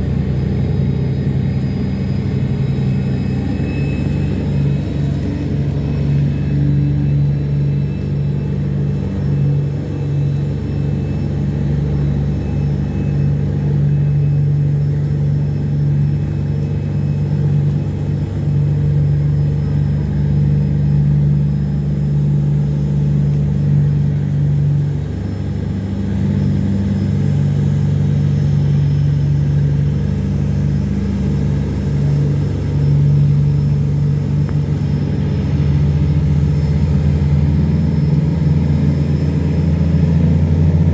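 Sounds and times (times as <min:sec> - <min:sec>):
tugboat engine drone: 0:00.0 - 0:40.9.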